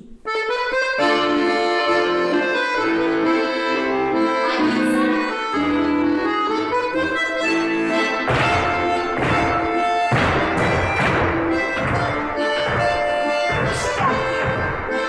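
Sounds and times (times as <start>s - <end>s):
accordion playing folk-dance tune: 0.3s - 15.0s.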